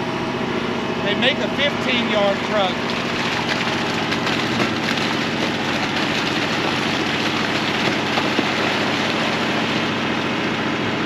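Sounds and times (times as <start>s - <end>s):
mud slurry dumping: 0.9s - 11.0s
vacuum truck blower rattling: 2.0s - 11.0s.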